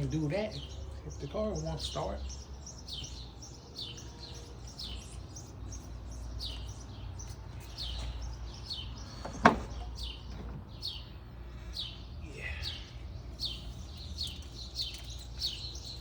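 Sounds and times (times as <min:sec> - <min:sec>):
bird chirping: 0:00.0 - 0:16.0
low outdoor rumble: 0:00.0 - 0:16.0.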